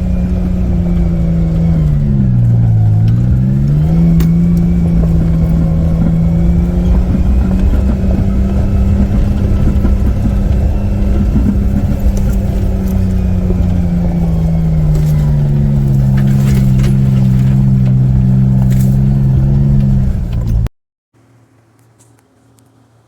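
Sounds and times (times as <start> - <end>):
off-road vehicle engine running: 0.0 - 20.7.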